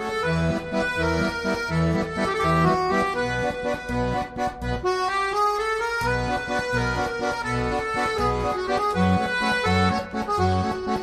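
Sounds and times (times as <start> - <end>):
accordion music with bass beat: 0.0 - 11.0.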